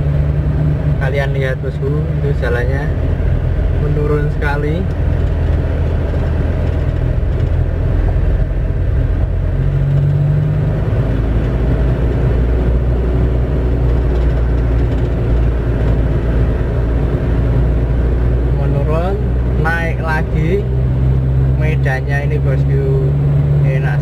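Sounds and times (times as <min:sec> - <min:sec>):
road noise: 0:00.0 - 0:24.0
vehicle engine drone: 0:00.0 - 0:24.0.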